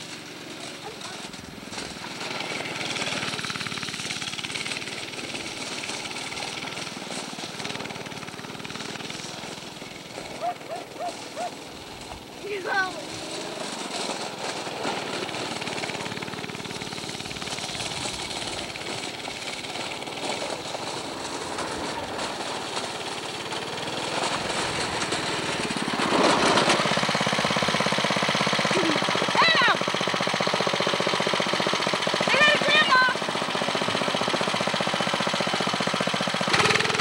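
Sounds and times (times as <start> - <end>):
go-kart engine running: 0.0 - 37.0.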